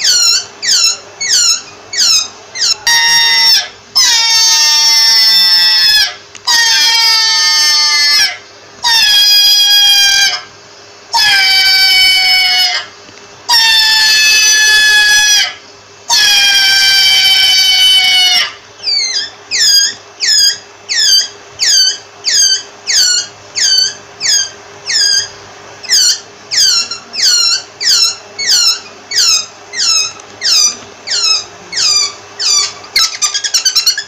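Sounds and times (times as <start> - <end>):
rabbit squealing: 0.0 - 34.0.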